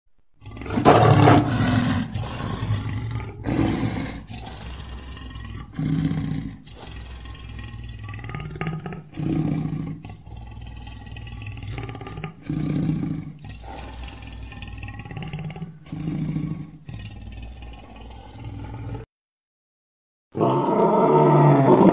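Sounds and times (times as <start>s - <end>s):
lion roaring: 0.4s - 19.1s, 20.4s - 21.9s.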